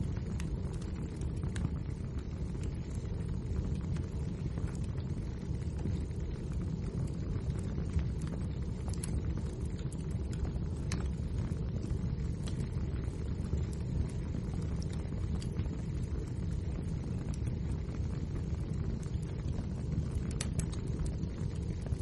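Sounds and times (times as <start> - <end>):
burning logs crackling: 0.0 - 22.0
fire rumbling: 0.0 - 22.0.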